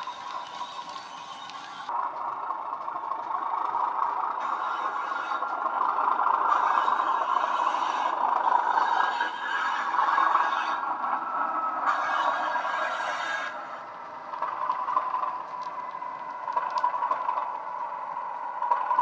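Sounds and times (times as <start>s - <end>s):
diesel engine sound from speaker: 0.0s - 19.0s.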